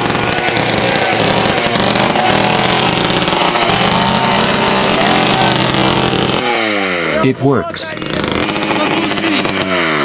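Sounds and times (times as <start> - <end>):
small petrol engine running: 0.0 - 10.0.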